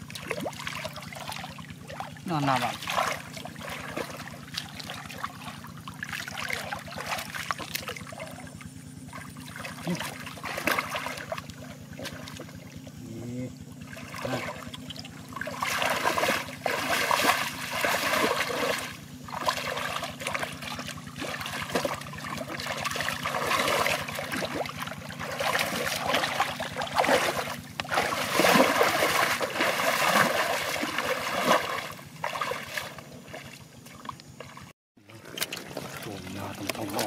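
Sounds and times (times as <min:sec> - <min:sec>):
hands splashing in shallow water: 0:00.0 - 0:08.5, 0:09.1 - 0:12.6, 0:13.9 - 0:37.0.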